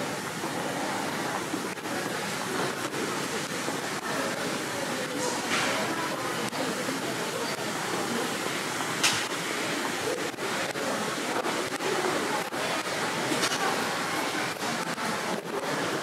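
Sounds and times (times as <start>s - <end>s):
city street noise: 0.0s - 16.0s
faint background voices: 0.0s - 16.0s.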